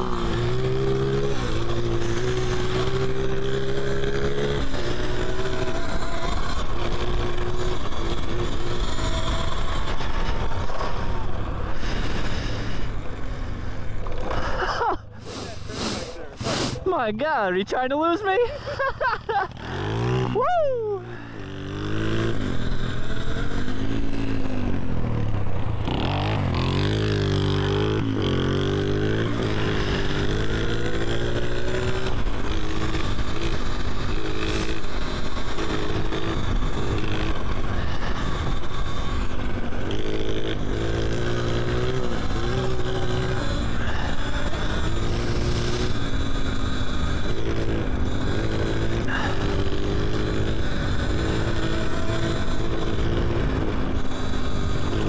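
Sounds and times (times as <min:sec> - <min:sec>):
electric dirt bike motor whining: 0:00.0 - 0:14.7, 0:21.0 - 0:55.0.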